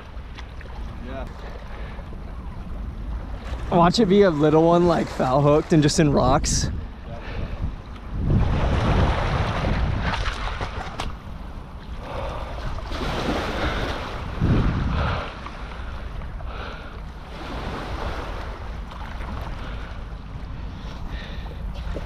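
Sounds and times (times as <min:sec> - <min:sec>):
river water: 0:00.0 - 0:22.0
wind buffeting microphone: 0:00.9 - 0:22.0.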